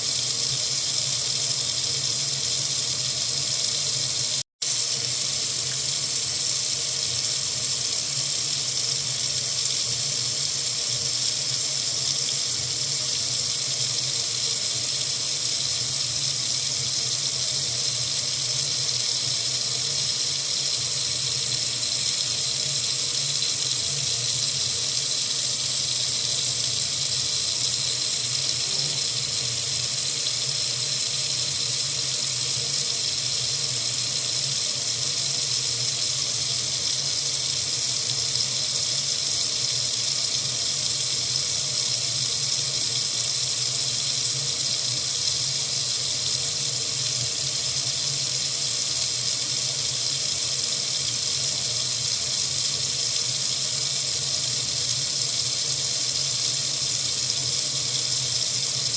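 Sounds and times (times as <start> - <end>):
faucet running into sink: 0.0 - 58.9.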